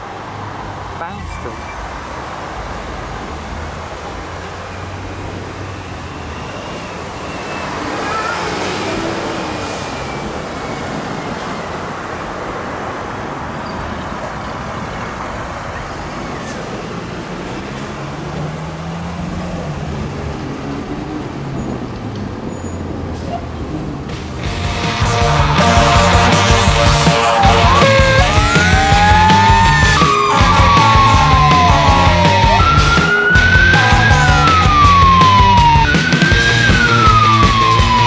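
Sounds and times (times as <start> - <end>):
vehicle engines: 0.0 - 38.0.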